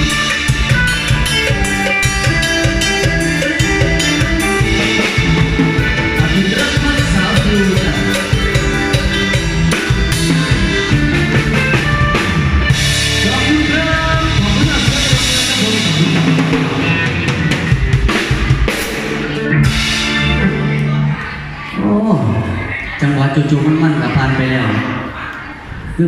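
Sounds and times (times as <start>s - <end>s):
drum kit: 0.0s - 21.3s
live band instrumental music: 0.0s - 23.0s.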